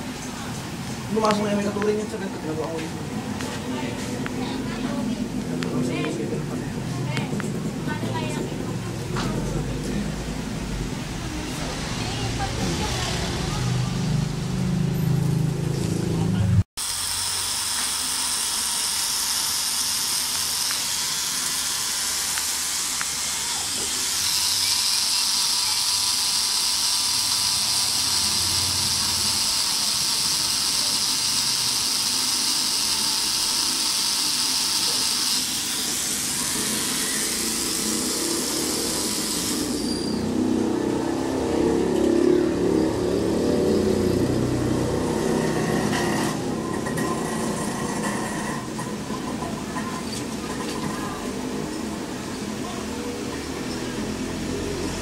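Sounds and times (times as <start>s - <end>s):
tattoo machine whirring: 0.0s - 6.6s, 16.7s - 55.0s.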